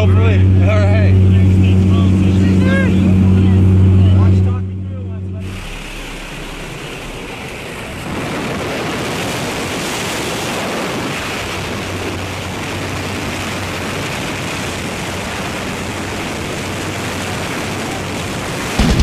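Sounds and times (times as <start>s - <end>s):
plane engine and propeller drone: 0.0s - 19.0s
rushing wind: 0.0s - 19.0s.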